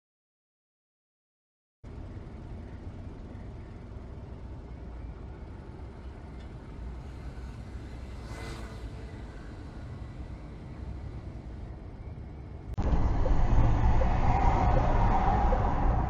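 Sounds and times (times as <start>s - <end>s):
road noise: 1.8s - 16.0s
vehicle engine rumble: 1.8s - 16.0s.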